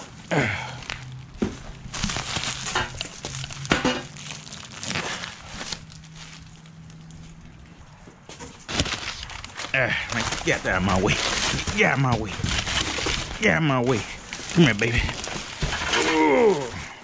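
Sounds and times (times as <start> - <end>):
bubble wrap and paper crinkling: 0.0 - 17.0.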